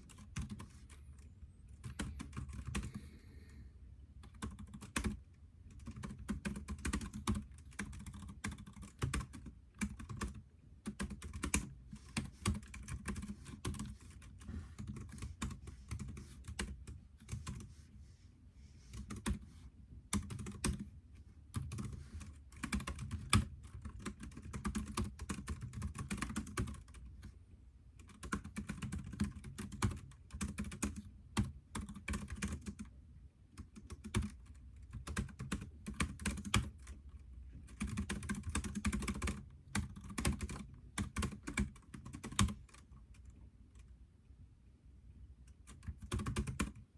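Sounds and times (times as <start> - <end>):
computer keyboard typing: 0.0 - 3.4, 4.2 - 17.7, 18.9 - 19.5, 20.1 - 27.3, 28.0 - 32.9, 33.5 - 43.9, 45.5 - 46.9.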